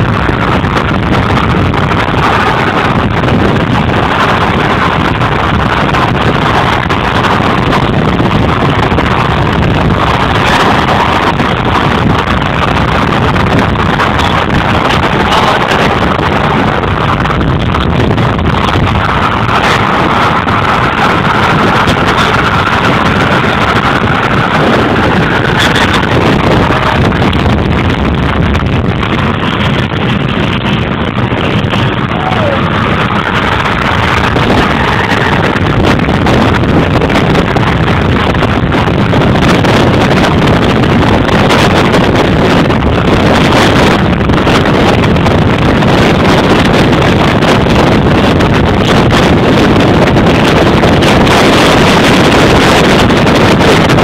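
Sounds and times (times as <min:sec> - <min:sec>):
car tyre and road noise: 0:00.0 - 0:54.0
wind rushing over microphone: 0:00.0 - 0:54.0.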